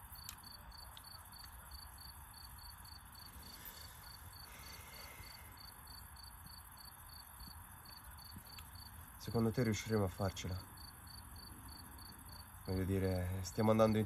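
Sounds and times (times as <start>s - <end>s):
crickets chirping: 0.0s - 14.0s
low hiss: 0.0s - 14.0s.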